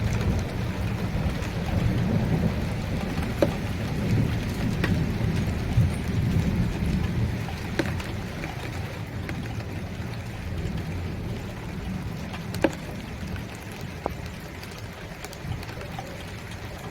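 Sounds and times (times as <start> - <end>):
sharp raindrops: 0.0 - 16.9
steady rainfall: 0.0 - 16.9.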